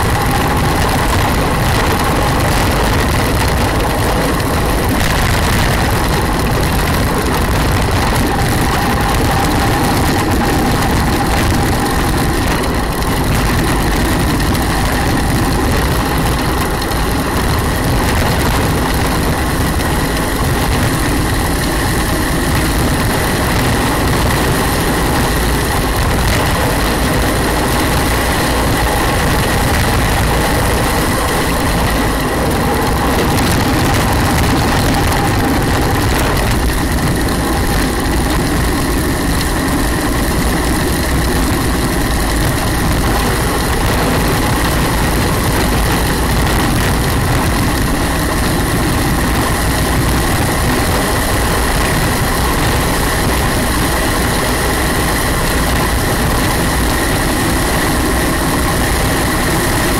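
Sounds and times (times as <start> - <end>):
thin steady whine: 0.0 - 59.9
tyre roar on asphalt: 0.0 - 59.9
wind rush: 0.0 - 59.9.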